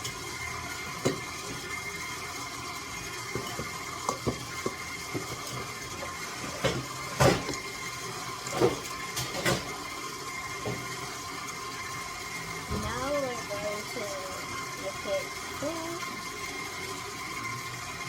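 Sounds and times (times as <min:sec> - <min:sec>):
electric mixer whining: 0:00.0 - 0:18.0.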